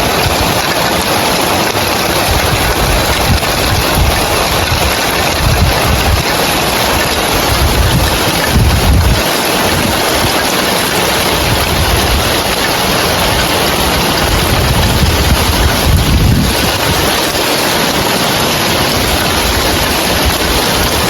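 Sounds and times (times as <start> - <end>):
heavy rain on roof tiles: 0.0 - 21.0
wind gusting on microphone: 0.0 - 21.0.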